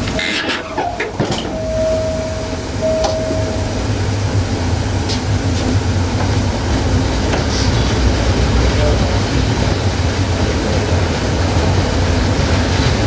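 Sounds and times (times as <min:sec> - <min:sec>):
level-crossing warning tone: 0:00.0 - 0:12.2
diesel train rumbling: 0:00.0 - 0:13.0.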